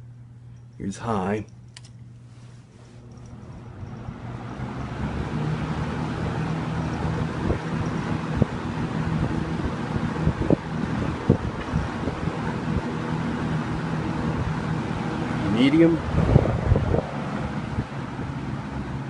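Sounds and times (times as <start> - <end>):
box fan running: 0.0 - 19.0.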